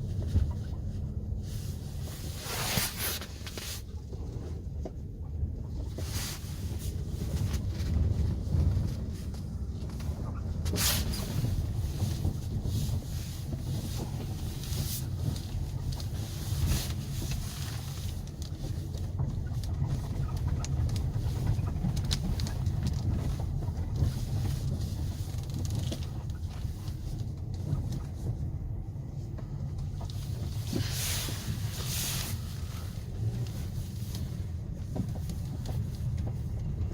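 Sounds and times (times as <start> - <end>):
car rumbling: 0.0 - 36.9
wind buffeting microphone: 0.0 - 36.9.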